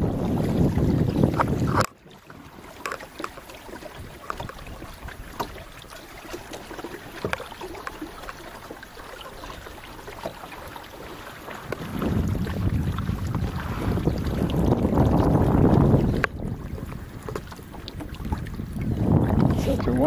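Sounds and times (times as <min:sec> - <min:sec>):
small irregular splashes: 0:00.0 - 0:20.0
water lapping at boat hull: 0:00.0 - 0:20.0.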